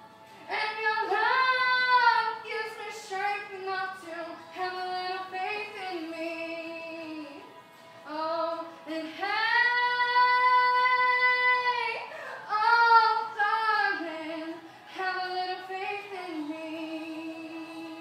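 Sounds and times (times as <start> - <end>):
girl singing unaccompanied: 0.5 - 7.5, 8.1 - 18.0.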